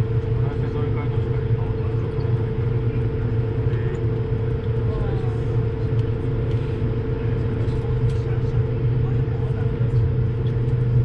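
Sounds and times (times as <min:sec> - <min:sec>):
jet engines droning: 0:00.0 - 0:11.0
steady cabin hum: 0:00.0 - 0:11.0.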